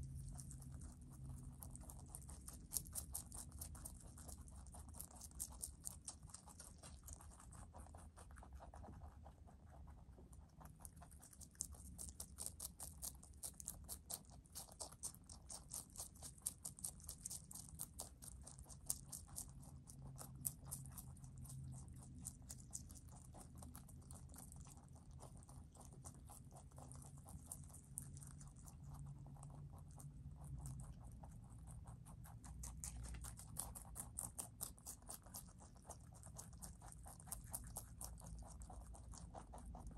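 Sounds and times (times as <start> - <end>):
rabbits chewing greens: 0.0 - 39.9.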